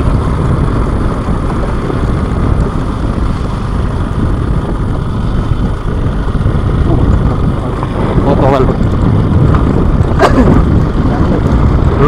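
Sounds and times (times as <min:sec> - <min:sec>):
motorcycle engine: 0:00.0 - 0:12.0
wind on microphone: 0:00.0 - 0:12.0.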